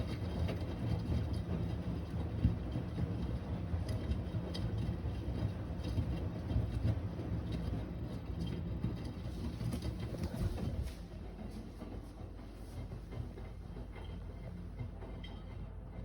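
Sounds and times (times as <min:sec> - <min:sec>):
washing machine drum rumbling: 0:00.0 - 0:16.0.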